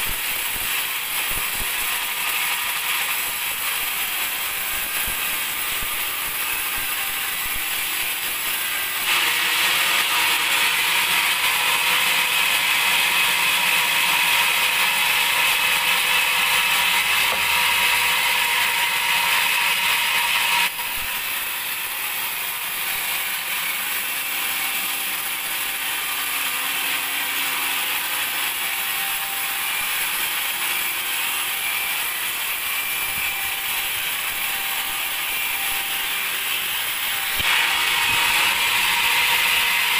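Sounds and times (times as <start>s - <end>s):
band saw running: 0.0s - 39.9s
saw blade cutting log: 0.0s - 39.9s.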